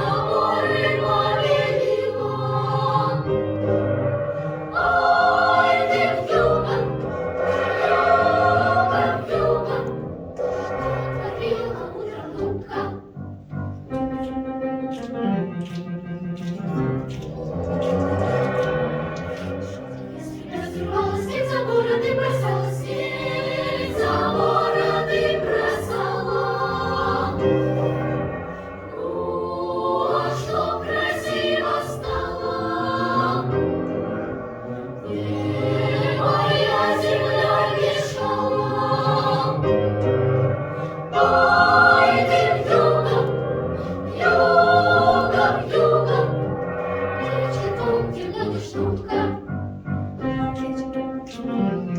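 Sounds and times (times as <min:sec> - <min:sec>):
children's choir singing: 0:00.0 - 0:51.9
instrumental accompaniment: 0:00.0 - 0:51.9.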